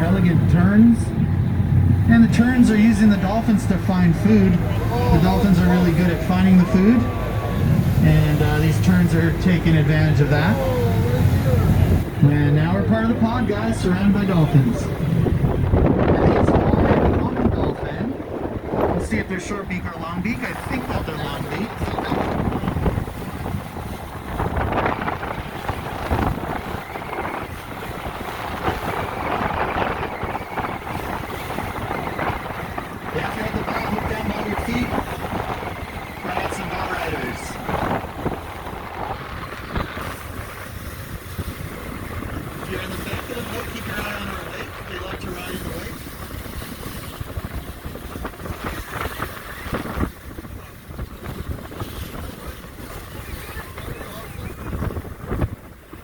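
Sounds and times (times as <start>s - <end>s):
water splashing along boat hull: 0.0s - 56.0s
wind buffeting microphone: 0.0s - 56.0s.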